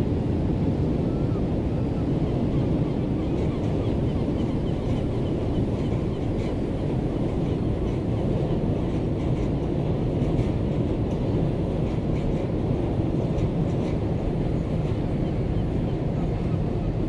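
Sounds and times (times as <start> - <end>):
ship engine and hull rumble: 0.0 - 17.0.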